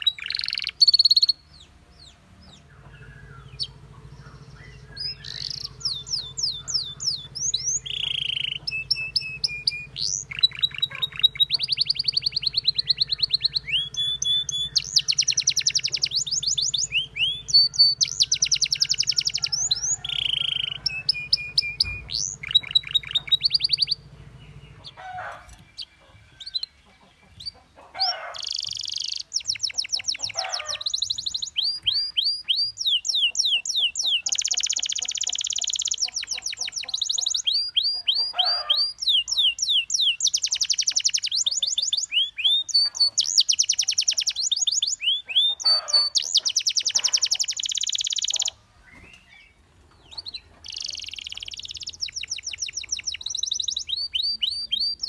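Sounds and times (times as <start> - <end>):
canary singing in trills: 0.0 - 55.0.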